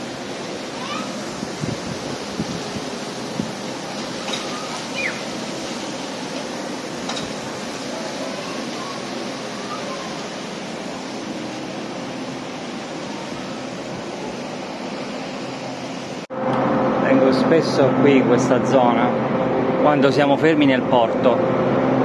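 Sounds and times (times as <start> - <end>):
steady rushing wind noise: 0.0 - 22.0.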